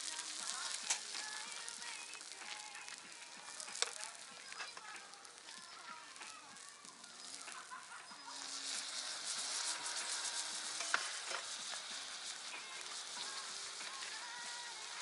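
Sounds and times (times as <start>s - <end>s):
campfire crackling and hissing: 0.0s - 15.0s.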